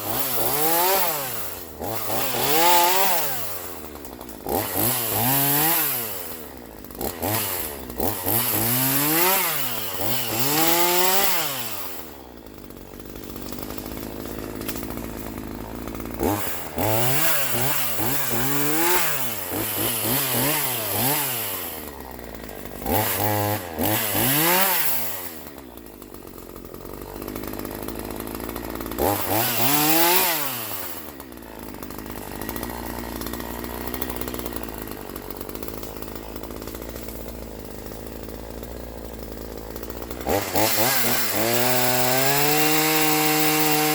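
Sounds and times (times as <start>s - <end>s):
chainsaw revving and idling: 0.0s - 43.9s.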